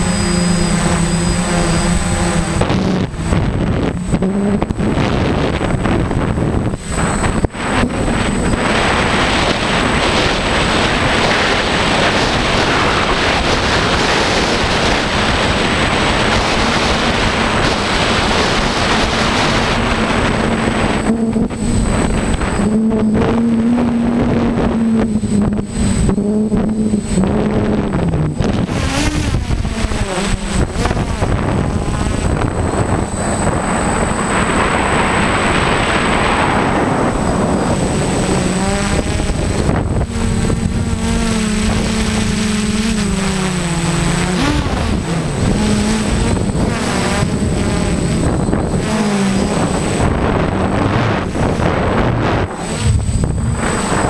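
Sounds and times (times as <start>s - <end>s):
drone motors humming: 0.0s - 54.0s
wind buffeting microphone: 0.0s - 54.0s.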